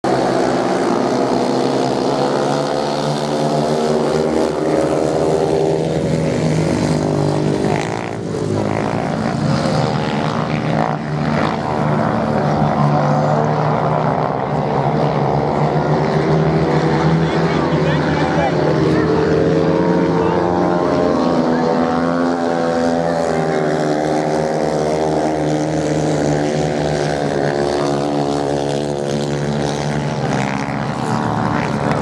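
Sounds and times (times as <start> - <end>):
racing motorcycle engines: 0.0 - 32.0.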